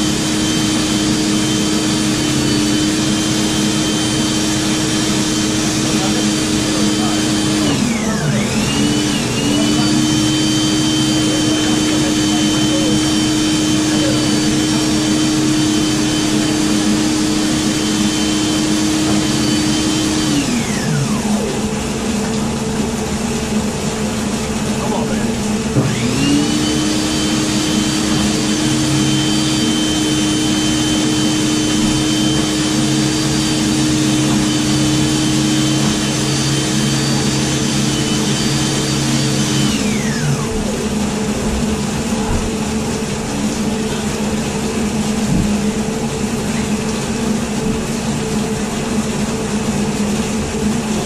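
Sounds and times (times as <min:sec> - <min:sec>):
drain machine motor whine: 0:00.0 - 0:51.0.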